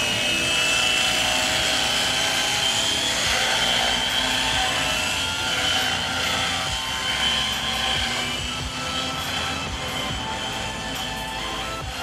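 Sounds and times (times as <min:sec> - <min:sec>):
model helicopter rotor whine: 0:00.0 - 0:12.0.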